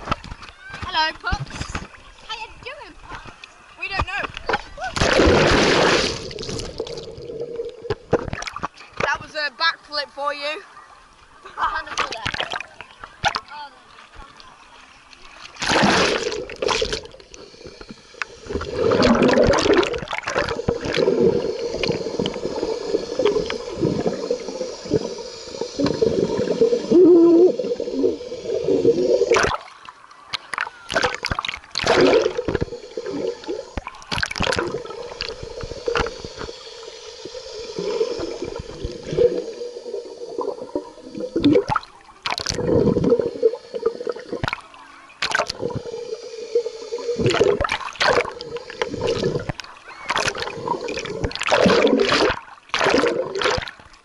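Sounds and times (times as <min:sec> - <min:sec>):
pool water splashing and gurgling: 0:00.0 - 0:54.0.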